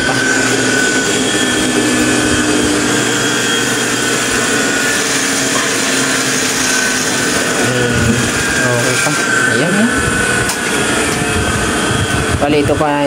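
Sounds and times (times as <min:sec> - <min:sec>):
sewing machine motor whirring: 0:00.0 - 0:11.2.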